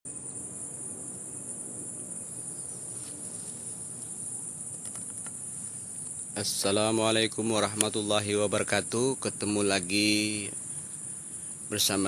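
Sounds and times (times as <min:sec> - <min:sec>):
crickets and insects trilling: 0:00.1 - 0:12.0.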